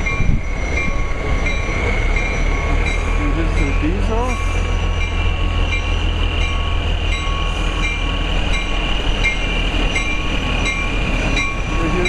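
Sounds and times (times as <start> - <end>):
diesel locomotive drone: 0.0 - 12.0.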